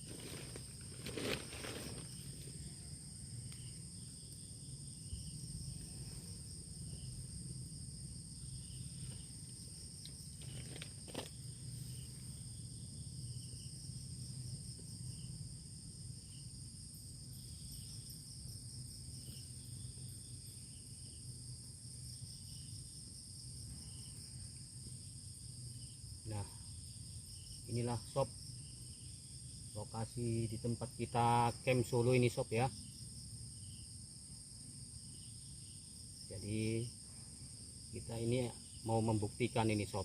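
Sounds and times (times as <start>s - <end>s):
crickets shrilling: 0.0s - 40.0s
soft insect chirp: 0.0s - 40.0s.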